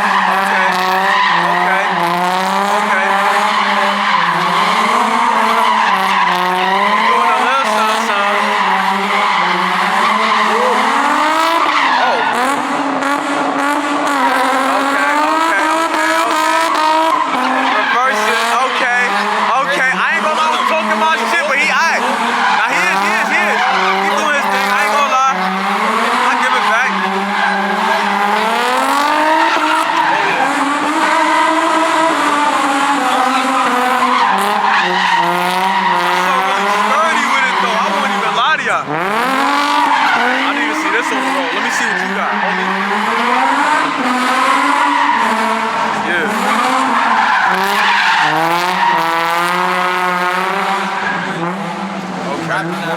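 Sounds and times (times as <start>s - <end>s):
car tyres squealing: 0.0s - 52.9s.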